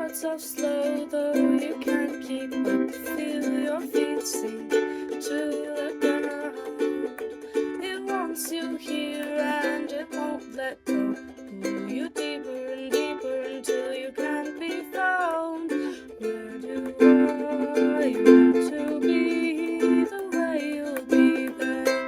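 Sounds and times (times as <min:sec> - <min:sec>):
plucked string instrument strumming: 0:00.0 - 0:22.0.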